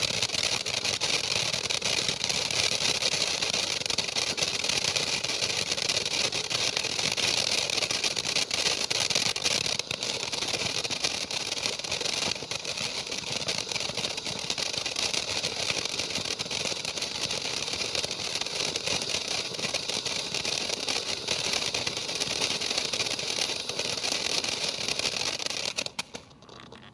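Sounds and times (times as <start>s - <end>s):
firework hissing and crackling: 0.0s - 26.9s.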